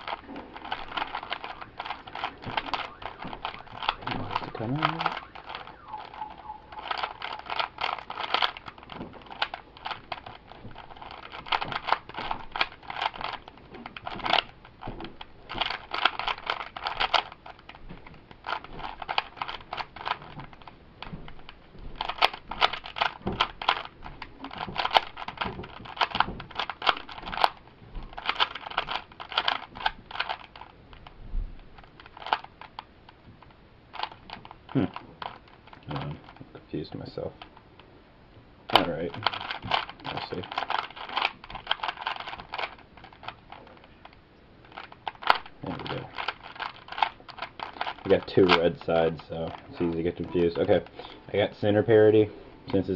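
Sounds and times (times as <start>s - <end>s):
puzzle cube clicking: 0.0s - 31.1s, 31.8s - 37.6s, 38.7s - 51.9s.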